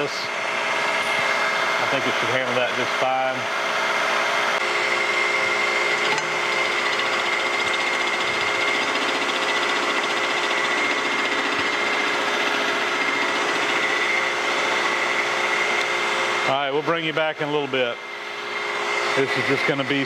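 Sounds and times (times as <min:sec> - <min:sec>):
milling machine cutting metal: 0:00.0 - 0:20.0.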